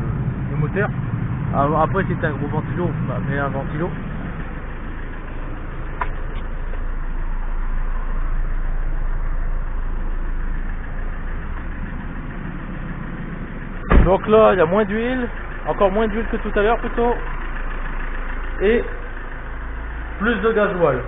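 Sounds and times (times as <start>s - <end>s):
diesel car engine idling: 0.0s - 21.0s.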